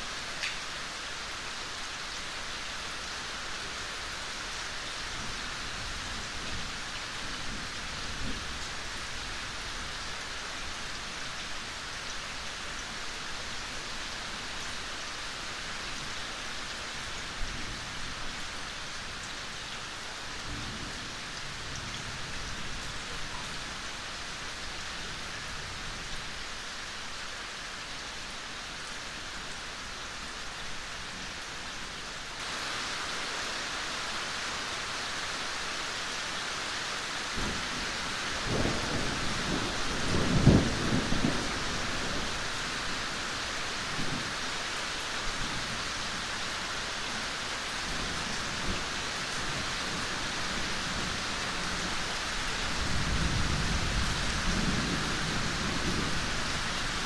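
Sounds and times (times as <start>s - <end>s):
gentle rain patter: 0.0s - 57.0s.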